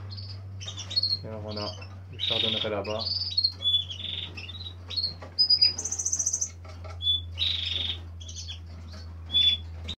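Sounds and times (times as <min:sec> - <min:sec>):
finches chirping: 0:00.0 - 0:10.0.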